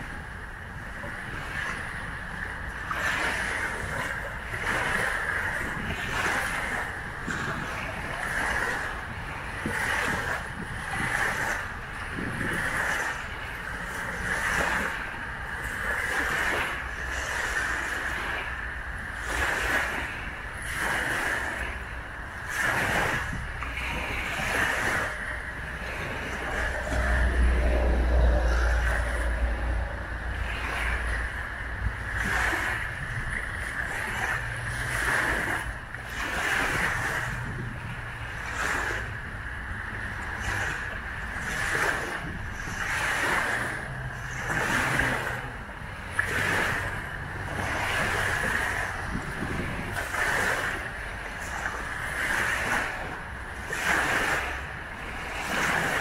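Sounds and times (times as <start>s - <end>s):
waves lapping on shore: 0.0s - 56.0s
wind rumbling on microphone: 0.0s - 56.0s.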